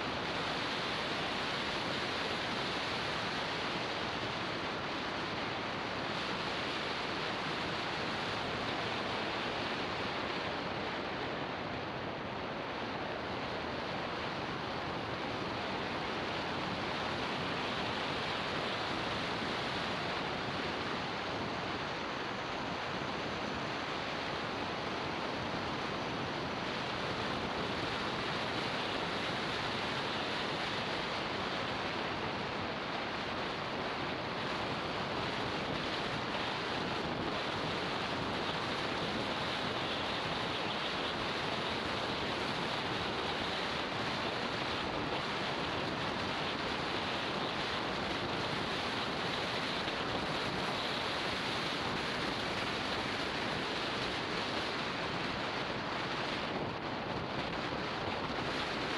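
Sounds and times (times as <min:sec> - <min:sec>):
wind rushing over microphone: 0:00.0 - 0:58.9.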